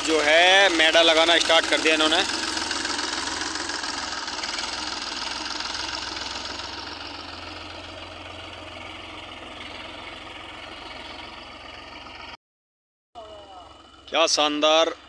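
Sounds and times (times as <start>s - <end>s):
tractor diesel engine running: 0.0s - 12.4s, 13.2s - 15.0s.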